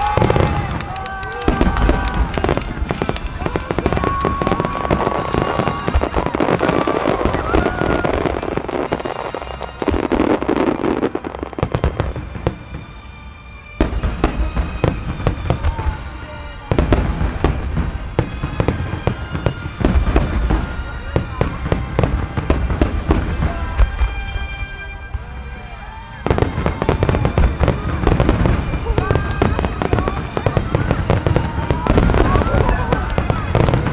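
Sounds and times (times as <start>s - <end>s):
firework shells booming and crackling: 0.0s - 33.9s.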